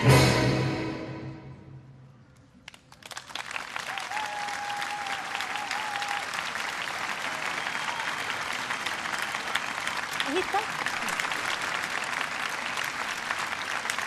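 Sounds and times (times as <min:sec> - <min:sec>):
audience applause: 0:02.6 - 0:14.0.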